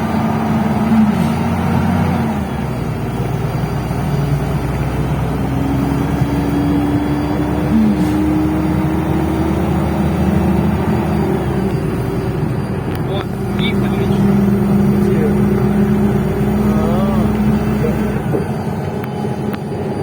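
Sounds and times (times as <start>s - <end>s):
bus engine and road rumble: 0.0s - 20.0s
rising whine: 0.7s - 20.0s.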